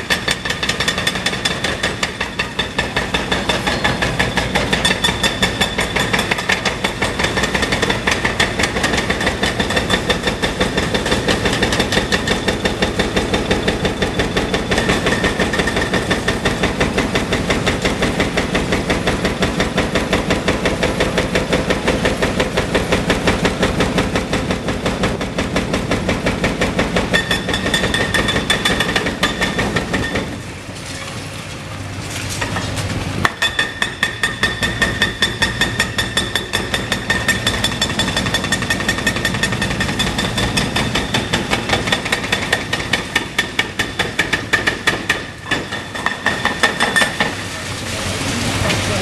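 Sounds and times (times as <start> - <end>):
hydraulic breaker hammering concrete: 0.0 - 30.5, 33.2 - 47.6
excavator engine: 0.0 - 49.0.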